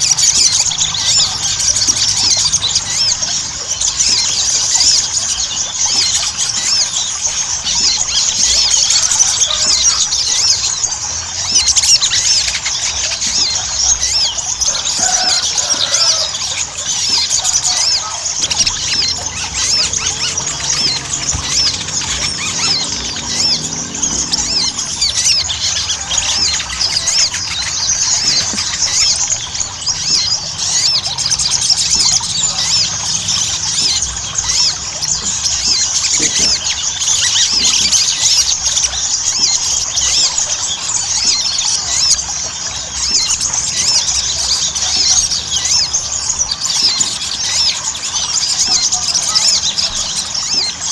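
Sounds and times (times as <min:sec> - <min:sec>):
bird chirping and twittering: 0:00.0 - 0:50.9.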